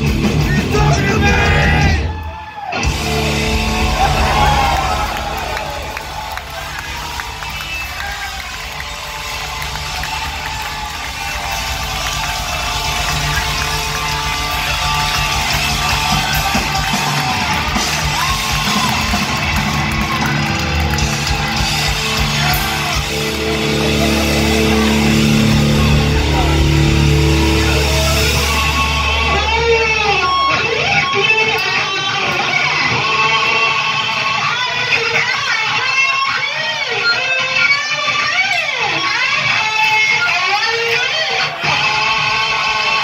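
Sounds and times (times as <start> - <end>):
heavy rock band playing: 0.0 - 43.0
electric guitar bending notes: 2.8 - 43.0.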